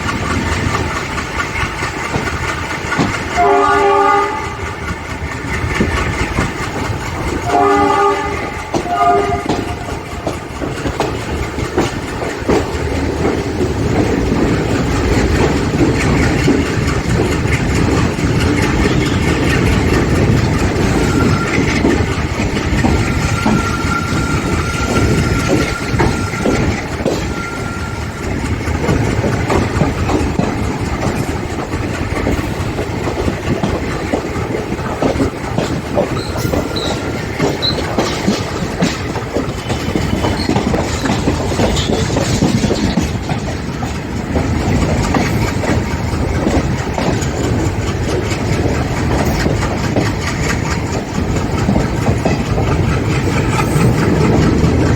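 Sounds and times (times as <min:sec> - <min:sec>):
train coaches rumbling: 0:00.0 - 0:54.9
wheels clicking over rail joints: 0:00.0 - 0:54.9.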